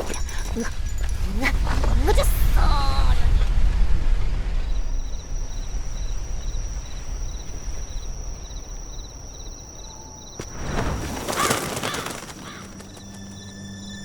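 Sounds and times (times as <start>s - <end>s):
crickets chirping in pulsed bursts: 0.0s - 11.1s, 12.7s - 14.0s
high insect trill: 0.0s - 14.0s.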